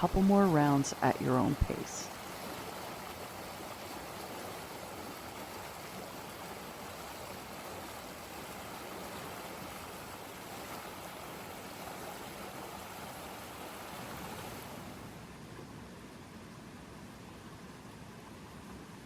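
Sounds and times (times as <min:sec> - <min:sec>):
stream water flowing: 0:00.0 - 0:15.4.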